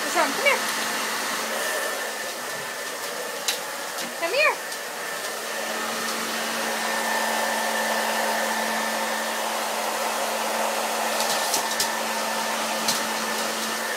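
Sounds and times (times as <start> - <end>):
hair dryer running: 0.0 - 13.9.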